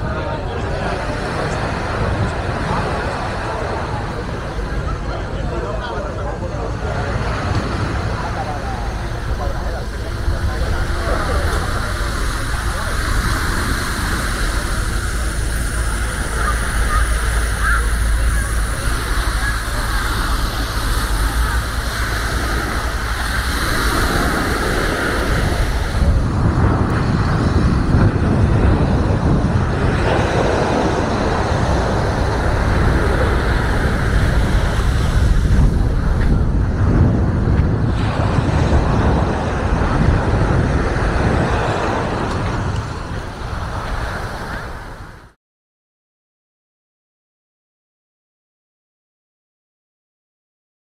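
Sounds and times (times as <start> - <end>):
small waves breaking on shore: 0.0 - 45.4
wind buffeting microphone: 0.0 - 45.4.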